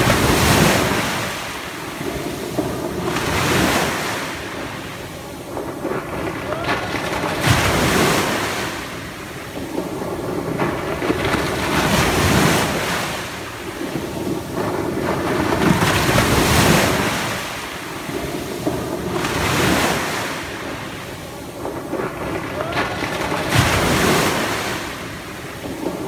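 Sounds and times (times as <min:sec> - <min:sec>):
small waves washing up a beach: 0:00.0 - 0:26.0.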